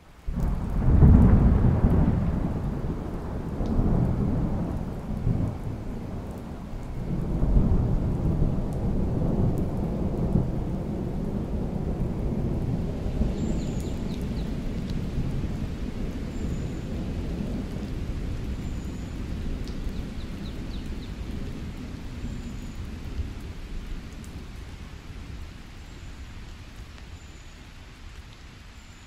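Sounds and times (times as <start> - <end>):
steady rain: 0.0 - 29.0
thunder rumbling: 0.3 - 25.5.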